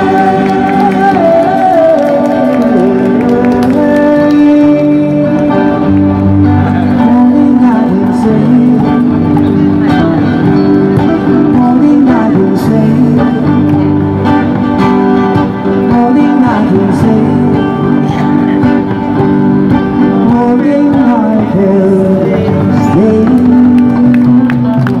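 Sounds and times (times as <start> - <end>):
person singing: 0.0 - 14.6, 15.4 - 25.0
live band playing pop: 0.0 - 25.0.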